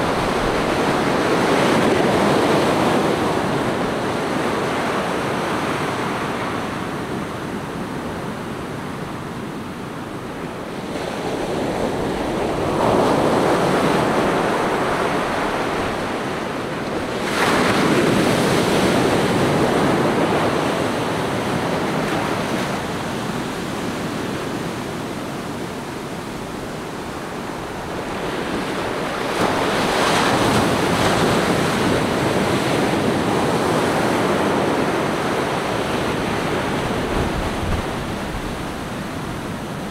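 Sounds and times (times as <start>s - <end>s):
ocean surf on sandy beach: 0.0s - 39.9s.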